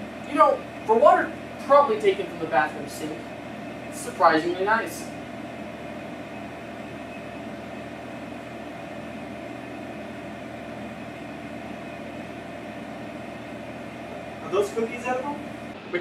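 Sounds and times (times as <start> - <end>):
room ventilation hum: 0.0 - 16.0.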